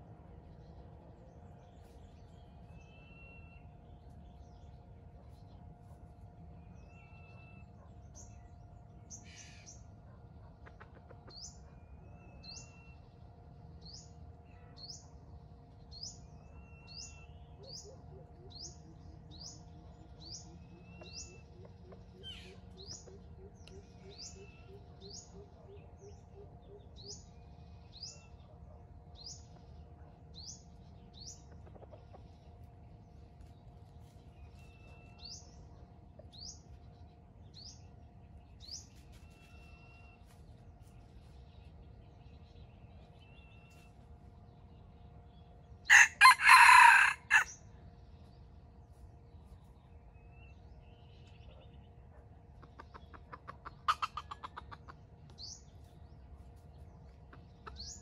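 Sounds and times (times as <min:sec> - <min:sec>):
birds chirping: 0:00.0 - 0:58.0
steady faint hum: 0:00.0 - 0:58.0.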